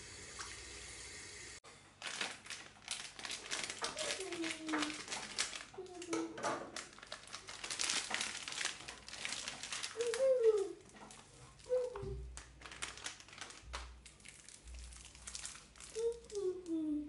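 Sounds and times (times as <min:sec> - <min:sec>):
plastic packaging crinkling: 0:02.0 - 0:16.9.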